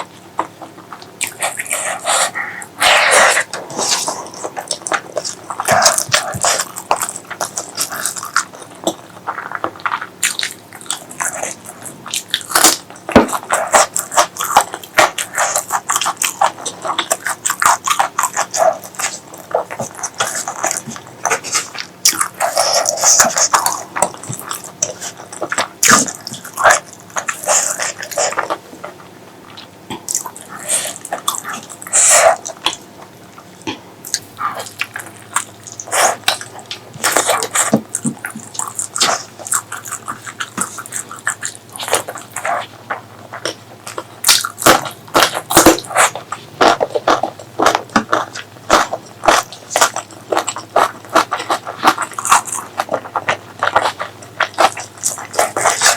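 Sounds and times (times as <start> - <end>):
lip-smacking: 0.0 - 55.9
wet chewing: 0.0 - 55.9.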